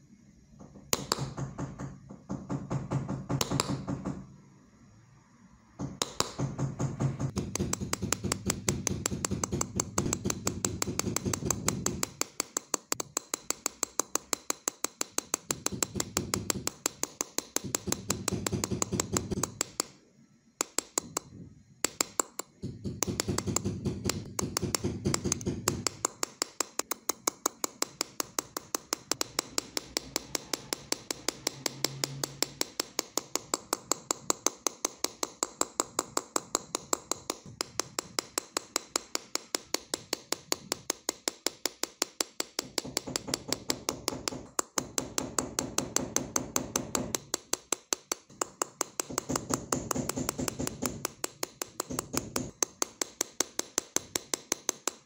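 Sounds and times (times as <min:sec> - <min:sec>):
hammer tapping steel punch: 0:00.9 - 0:04.2, 0:05.8 - 0:20.0, 0:20.6 - 0:55.0.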